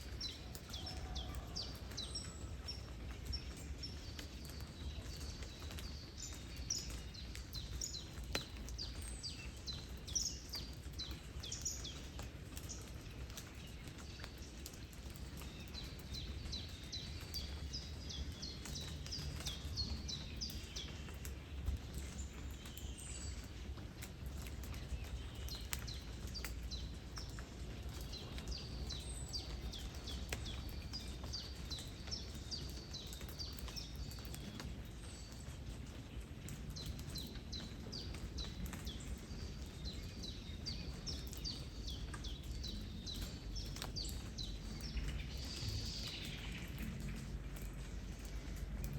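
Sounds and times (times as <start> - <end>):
raindrops ticking: 0.0 - 48.9
small birds chirping: 0.0 - 48.9.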